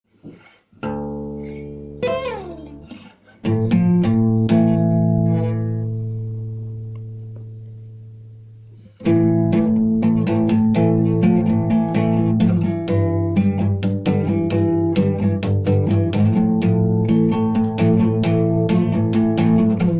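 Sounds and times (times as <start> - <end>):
guitar playing: 0.8 - 19.9.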